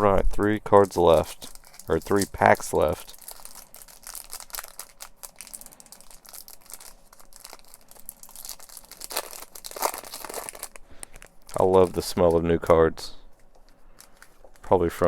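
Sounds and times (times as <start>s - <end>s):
card pack wrapper tearing and crinkling: 0.7s - 12.4s, 13.6s - 15.0s.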